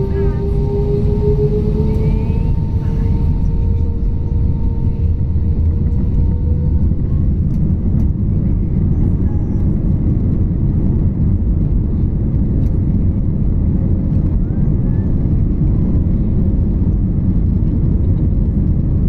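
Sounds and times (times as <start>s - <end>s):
jet cabin low rumble: 0.0s - 19.0s.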